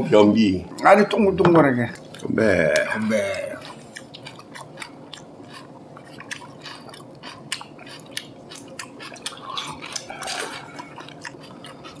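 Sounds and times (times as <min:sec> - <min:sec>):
wet chewing clicks and squishes: 0:01.8 - 0:12.0.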